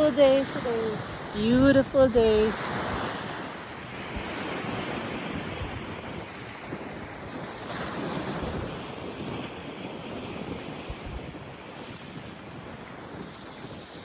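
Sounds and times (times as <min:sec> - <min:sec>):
ocean surf washing onto beach: 0:00.0 - 0:14.0
wind buffeting microphone: 0:00.0 - 0:14.0.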